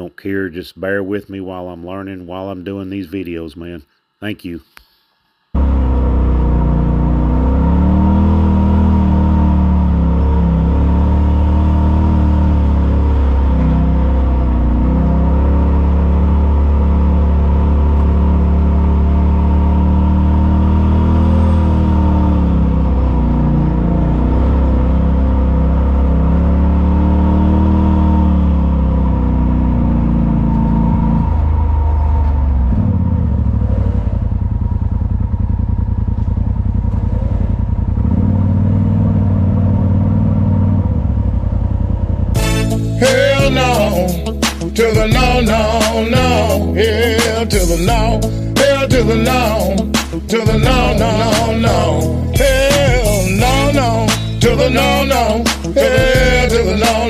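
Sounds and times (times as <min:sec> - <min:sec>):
engine droning: 0:05.6 - 0:57.0.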